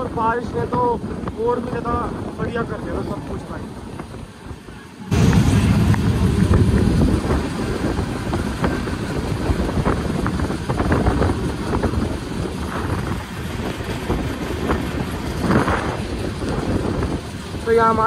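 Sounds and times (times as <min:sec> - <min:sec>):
train coach rumbling: 0:00.0 - 0:18.0.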